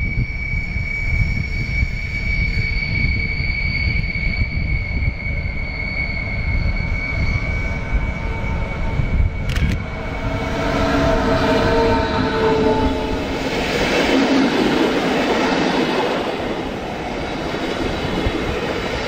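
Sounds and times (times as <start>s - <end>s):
high-pitched squeal: 0.0s - 19.0s
train low rumble: 0.0s - 19.0s.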